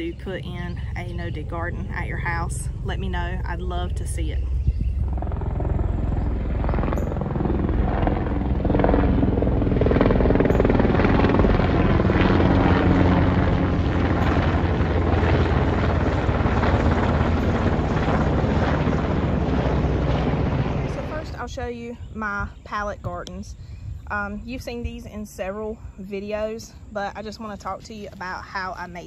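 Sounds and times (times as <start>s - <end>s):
helicopter flying overhead: 0.0s - 29.0s.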